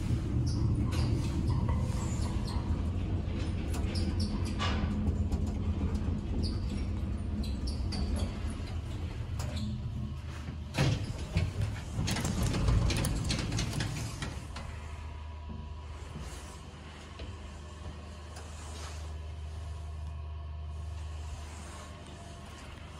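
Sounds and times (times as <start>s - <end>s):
elevator stopping clunks: 0.0s - 18.6s
elevator car humming: 0.0s - 22.9s
sliding doors rumbling and rattling: 0.0s - 22.9s.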